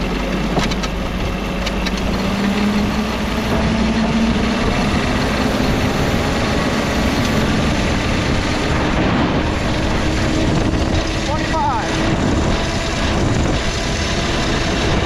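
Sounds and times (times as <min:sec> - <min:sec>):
small diesel engine running: 0:00.0 - 0:15.0.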